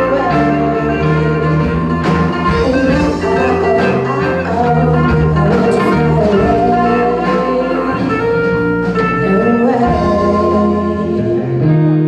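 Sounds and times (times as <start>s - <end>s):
live band with electric guitars: 0.0s - 12.0s.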